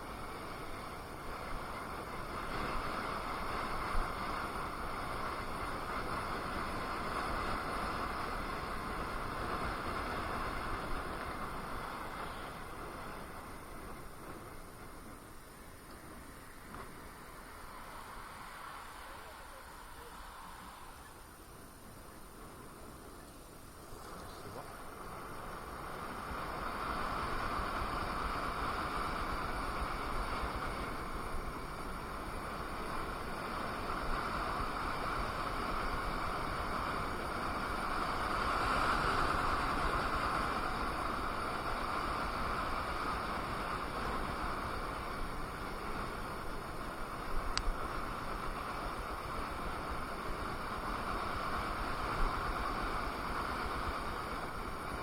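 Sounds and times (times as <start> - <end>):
electric unicycle wheel hum: 0.0 - 55.0.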